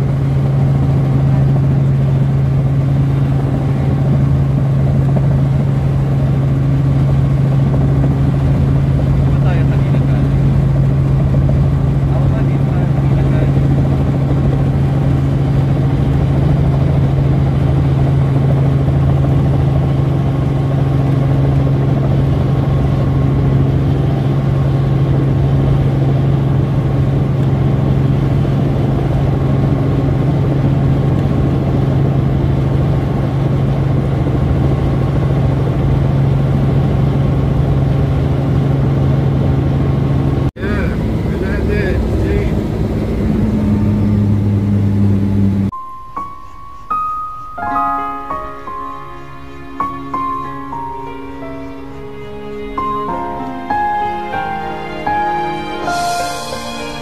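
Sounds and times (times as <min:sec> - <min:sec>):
helicopter engine and rotor drone: 0:00.0 - 0:45.8, 0:47.8 - 0:57.0.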